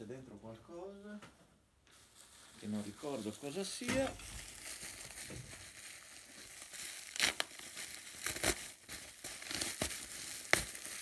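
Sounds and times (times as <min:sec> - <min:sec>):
bubble wrap crackles: 0:01.9 - 0:11.0
bubble wrap crinkling: 0:01.9 - 0:11.0.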